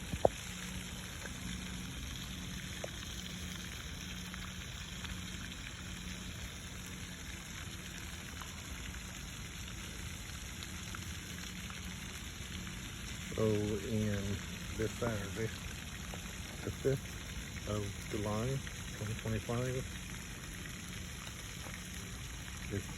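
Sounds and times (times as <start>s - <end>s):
fountain water splashing: 0.0s - 22.9s.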